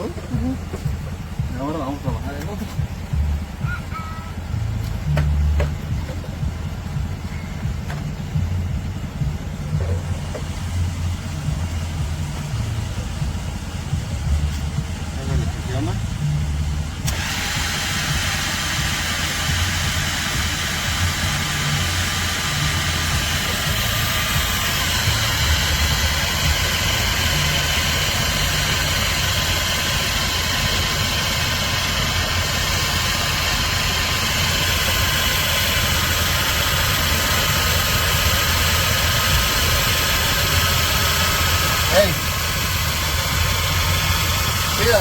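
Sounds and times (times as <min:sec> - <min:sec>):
electric jack motor whining: 0:00.0 - 0:45.0.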